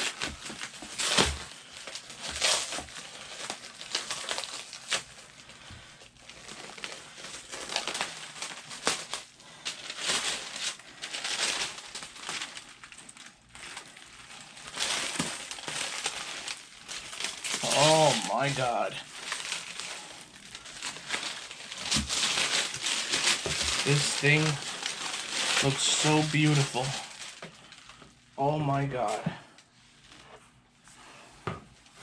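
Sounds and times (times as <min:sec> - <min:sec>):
packing paper crumpling: 0:00.0 - 0:30.3.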